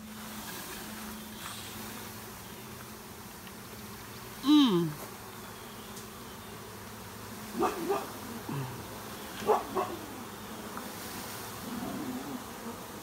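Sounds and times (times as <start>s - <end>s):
bee swarm buzzing: 0.0s - 13.0s.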